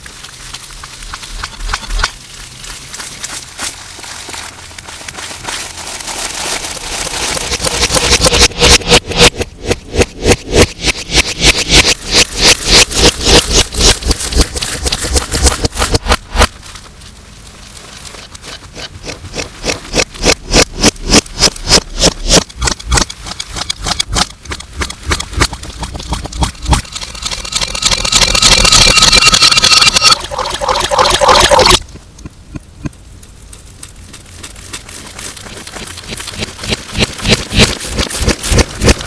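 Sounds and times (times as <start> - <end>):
continuous hiss: 0.0 - 39.0.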